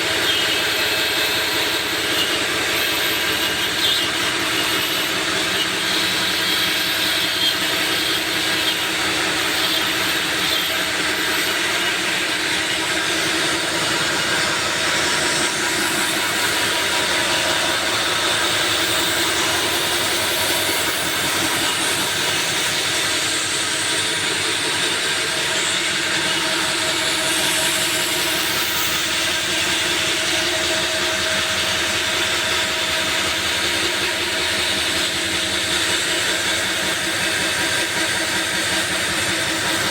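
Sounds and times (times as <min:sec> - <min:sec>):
machine running and cutting: 0:00.0 - 0:39.9.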